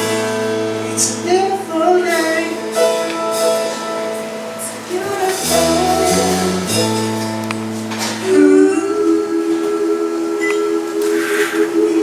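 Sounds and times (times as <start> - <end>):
live band held chords: 0.0 - 12.0.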